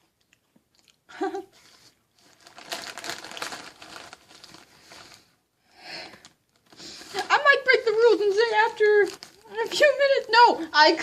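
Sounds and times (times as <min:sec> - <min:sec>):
plastic snack bag crinkling: 0:01.6 - 0:11.0.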